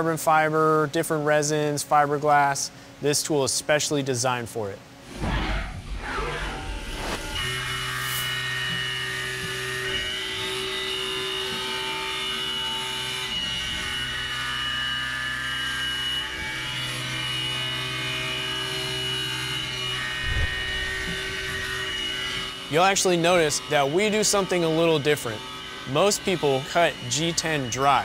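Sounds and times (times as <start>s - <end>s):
milling machine hum and whine: 4.9s - 28.0s.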